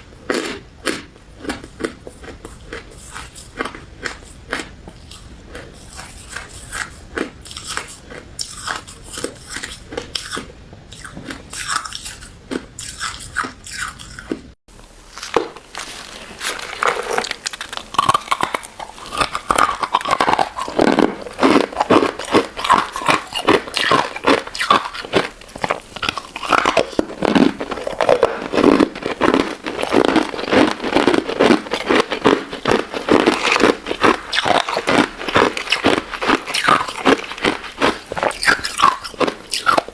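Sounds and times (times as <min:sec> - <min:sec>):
crunching ice dessert: 0:00.2 - 0:14.4, 0:15.2 - 0:39.9.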